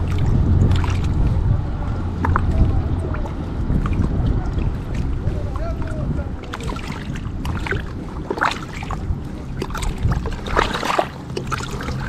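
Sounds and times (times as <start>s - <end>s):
river water rushing: 0.0s - 12.0s
water splashing and trickling: 0.0s - 12.0s.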